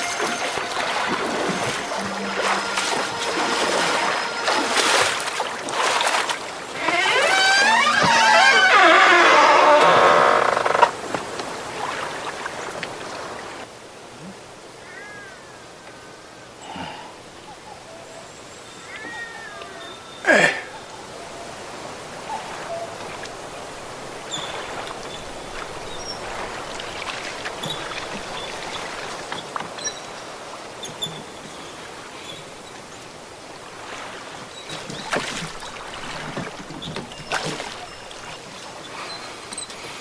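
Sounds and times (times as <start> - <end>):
oars splashing in water: 0.0 - 13.7, 18.8 - 40.0
water lapping: 0.0 - 15.0, 16.7 - 40.0.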